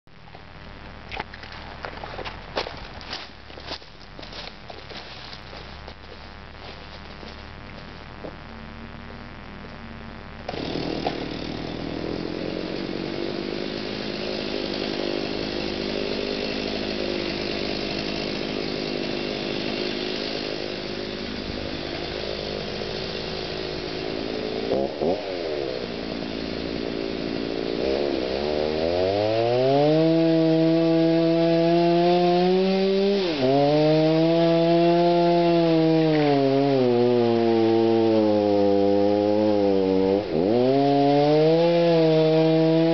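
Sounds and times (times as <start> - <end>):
chainsaw cutting wood: 1.1 - 8.4, 10.4 - 42.9.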